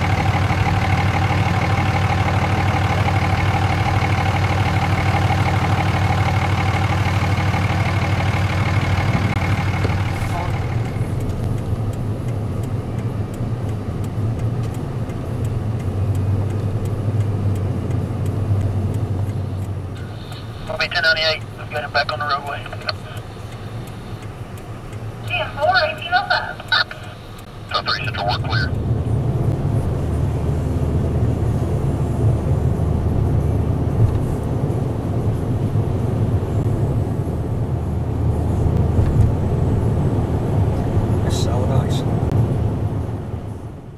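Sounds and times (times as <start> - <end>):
car engine drone: 0.0 - 43.9
tyres on snowy road: 0.0 - 43.9.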